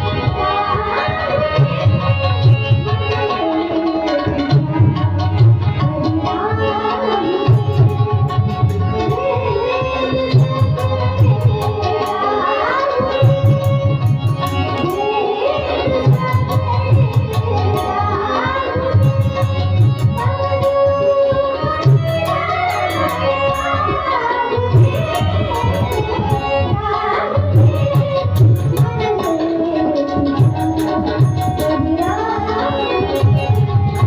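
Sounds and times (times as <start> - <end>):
tabla rhythm: 0.0 - 34.0.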